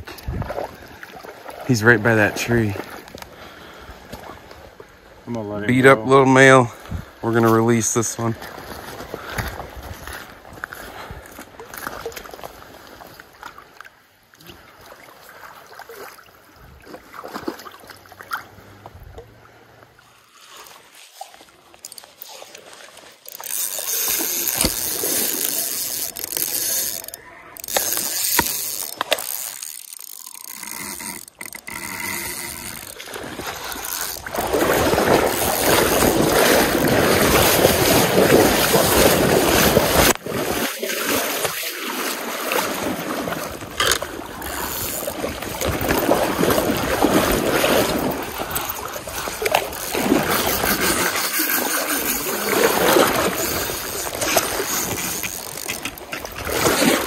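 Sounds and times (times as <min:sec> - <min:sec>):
stream water splashing: 0:00.0 - 0:57.0.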